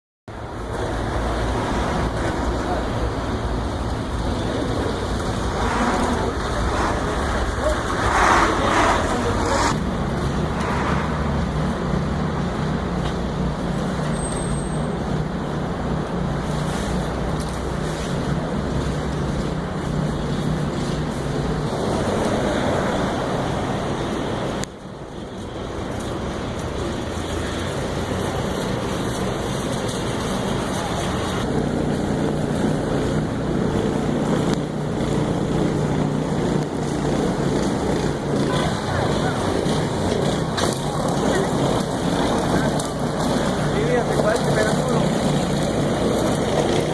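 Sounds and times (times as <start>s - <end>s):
passing vehicle rush: 0.3s - 46.9s
steady engine hum: 0.3s - 46.9s
street traffic noise: 0.3s - 46.9s.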